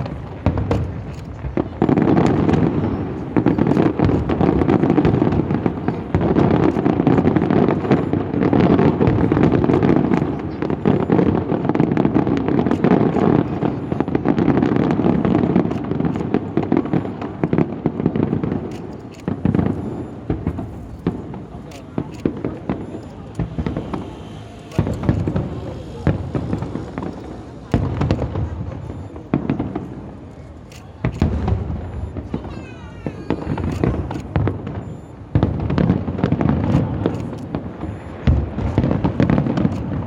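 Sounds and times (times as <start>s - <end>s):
fireworks banging and crackling: 0.0s - 40.0s.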